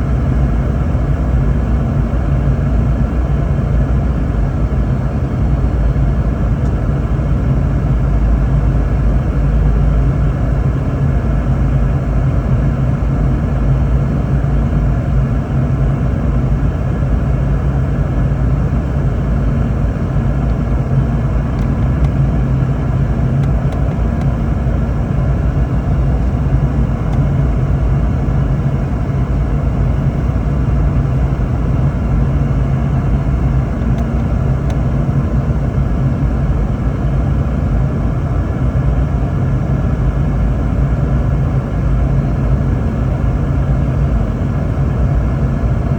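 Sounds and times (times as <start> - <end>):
jet engine hum: 0.0 - 45.9.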